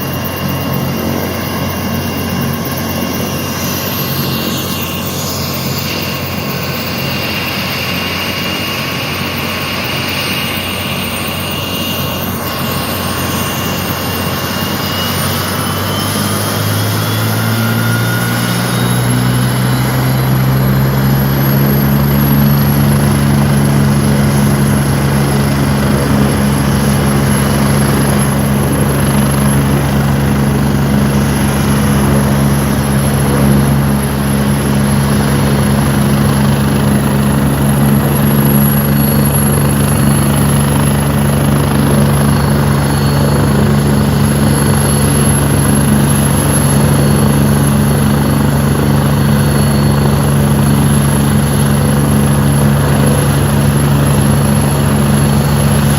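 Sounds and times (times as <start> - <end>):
helicopter rotor and turbine drone: 0.0 - 55.9
high turbine whine: 0.0 - 55.9.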